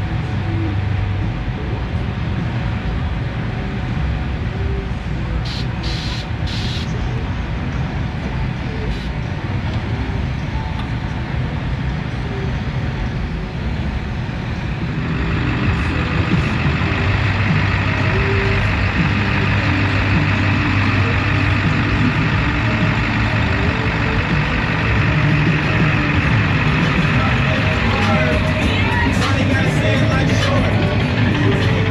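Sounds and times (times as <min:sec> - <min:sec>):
truck engine running: 0:00.0 - 0:31.9.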